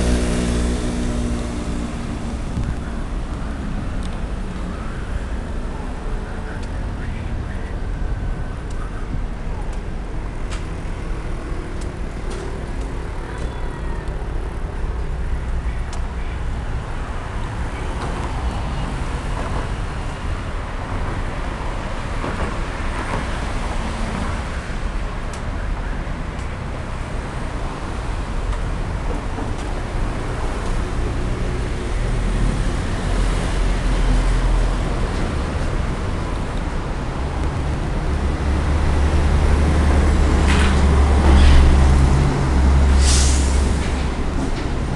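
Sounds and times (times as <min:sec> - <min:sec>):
car road and engine noise: 0:00.0 - 0:44.9.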